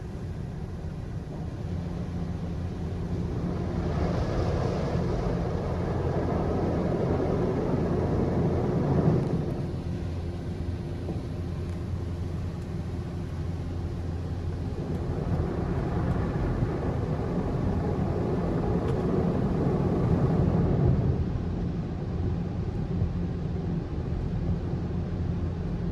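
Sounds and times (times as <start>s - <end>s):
car wash machine rumble: 0.0s - 21.2s.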